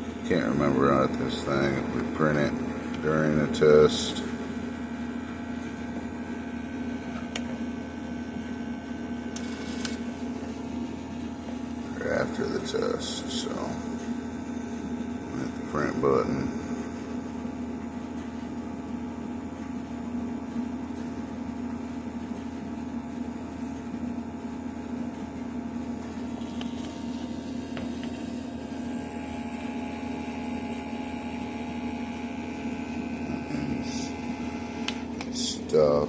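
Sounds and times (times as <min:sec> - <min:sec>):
small pump motor humming: 0:00.0 - 0:36.0.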